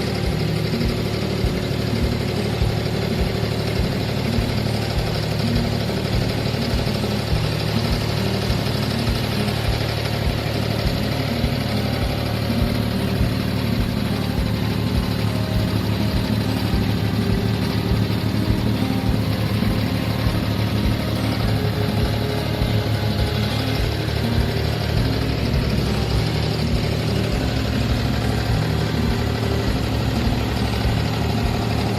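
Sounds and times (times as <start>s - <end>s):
boat diesel engine throbbing: 0.0s - 31.9s.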